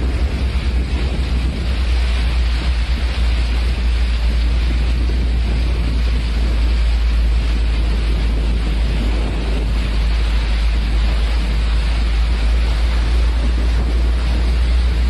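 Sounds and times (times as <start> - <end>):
storm wind rushing: 0.0 - 15.0
wind buffeting microphone: 0.0 - 15.0.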